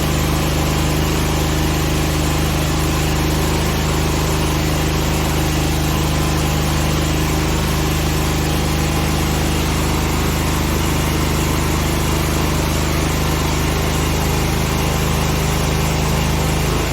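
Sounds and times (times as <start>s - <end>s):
generator engine running: 0.0s - 16.9s.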